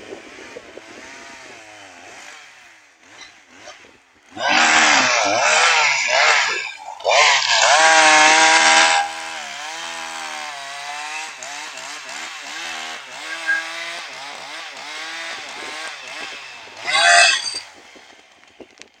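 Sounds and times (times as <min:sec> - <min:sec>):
two-stroke chainsaw revving: 0:00.0 - 0:18.8.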